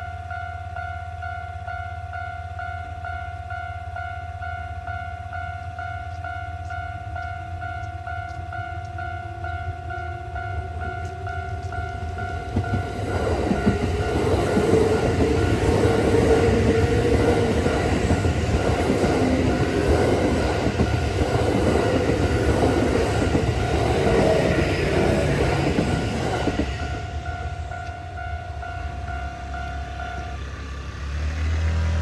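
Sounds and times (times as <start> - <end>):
electric train running past: 2.1 - 32.0.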